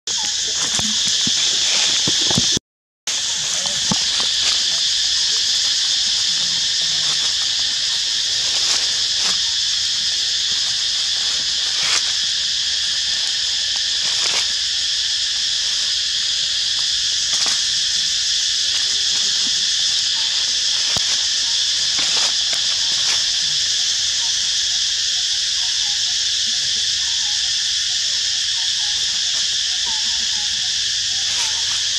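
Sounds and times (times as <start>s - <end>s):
high-pitched insect chorus: 0.1s - 31.9s
dry leaves rustling: 0.2s - 24.4s, 28.9s - 31.9s.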